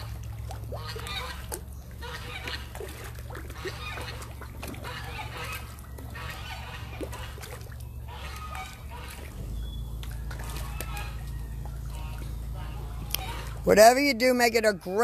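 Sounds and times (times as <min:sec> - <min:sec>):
fish splashing at surface: 0:00.0 - 0:13.7
farm fowl calling: 0:00.0 - 0:15.0.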